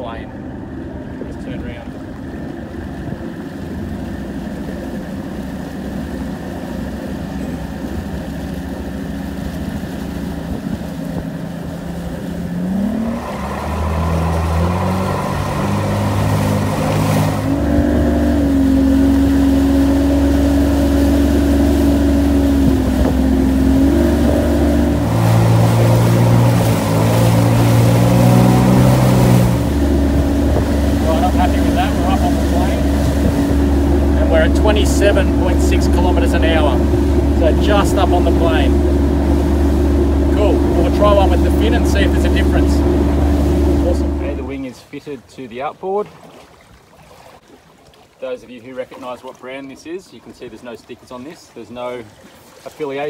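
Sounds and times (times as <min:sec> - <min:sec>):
outboard motor running: 0:00.0 - 0:44.8.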